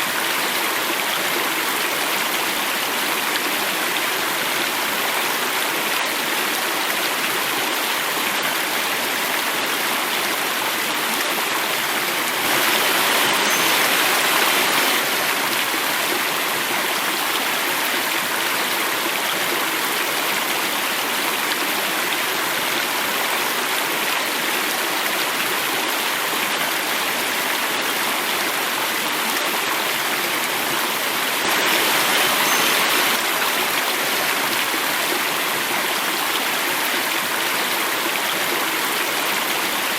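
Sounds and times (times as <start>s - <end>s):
water falling in a cascade: 0.0s - 39.9s.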